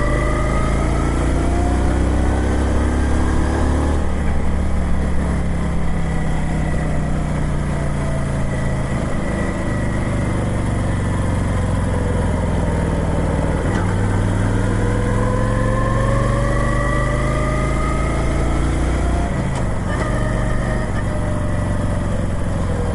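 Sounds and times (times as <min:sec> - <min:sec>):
motorcycle engine running: 0:00.0 - 0:16.3, 0:18.2 - 0:22.9.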